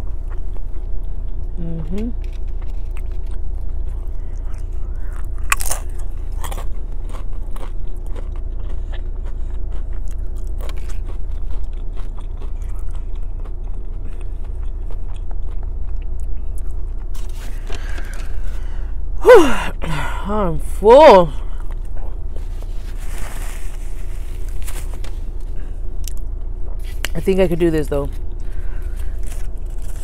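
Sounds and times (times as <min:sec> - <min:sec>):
wet chewing with crunches: 0:00.0 - 0:18.8, 0:21.5 - 0:30.0
idling car hum: 0:00.0 - 0:30.0.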